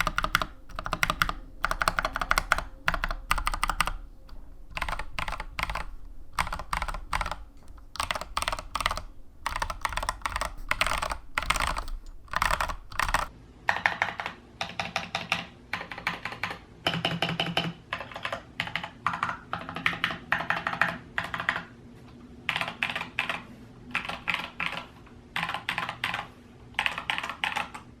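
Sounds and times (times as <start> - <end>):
mechanical keyboard typing: 0.0 - 21.7, 22.5 - 28.0.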